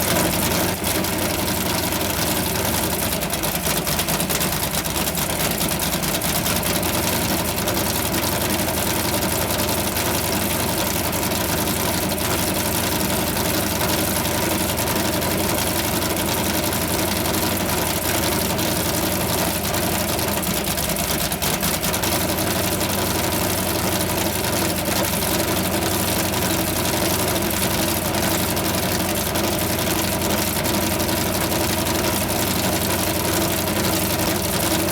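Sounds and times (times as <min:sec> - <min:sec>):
racing engine idling: 0:00.0 - 0:34.9.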